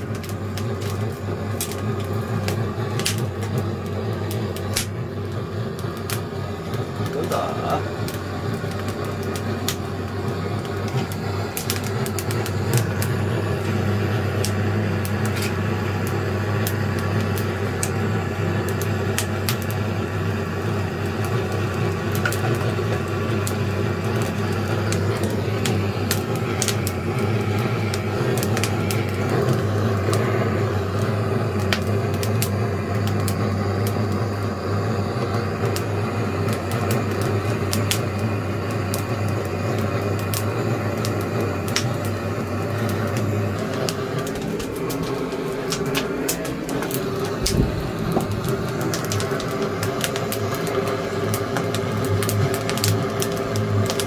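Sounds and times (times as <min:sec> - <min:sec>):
fire low rumble: 0:00.0 - 0:54.0
wood fire crackling and popping: 0:00.0 - 0:54.0.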